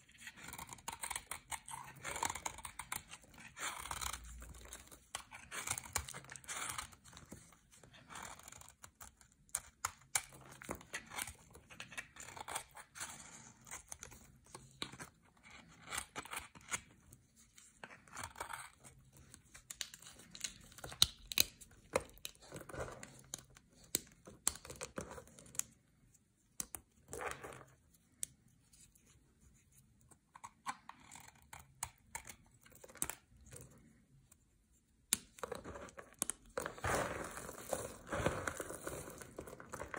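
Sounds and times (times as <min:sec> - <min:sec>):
fingers crumbling soap flakes: 0:00.1 - 0:17.0, 0:17.8 - 0:25.9, 0:30.1 - 0:34.0, 0:35.1 - 0:39.9.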